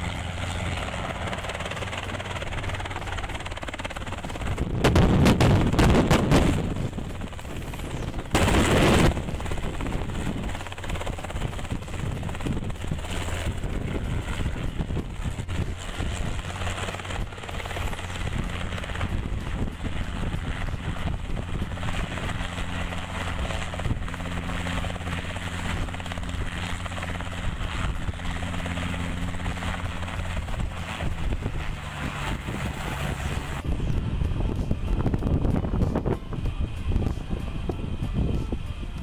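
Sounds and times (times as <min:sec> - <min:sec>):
helicopter flying past: 0:00.0 - 0:39.0
rotor downwash buffeting microphone: 0:00.0 - 0:39.0.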